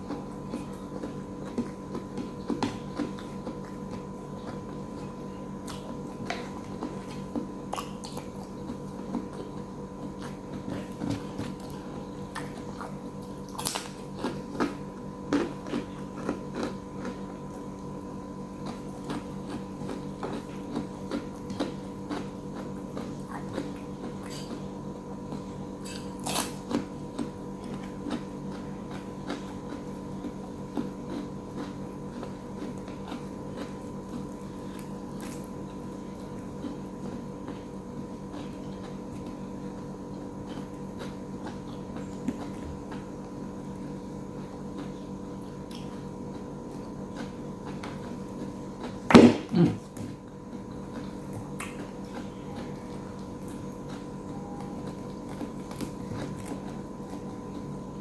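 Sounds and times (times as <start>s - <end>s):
electrical hum: 0.0s - 58.0s
food crunching: 0.0s - 58.0s
person chewing and eating: 0.0s - 58.0s.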